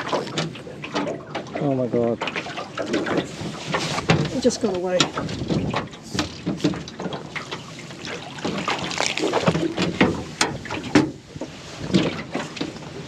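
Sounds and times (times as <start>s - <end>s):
knocks and clatter on metal boat: 0.0s - 13.0s.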